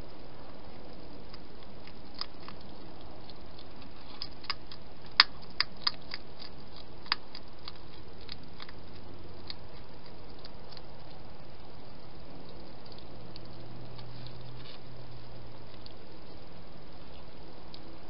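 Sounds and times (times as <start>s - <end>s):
hedgehog crunching dry food: 0.0s - 18.0s.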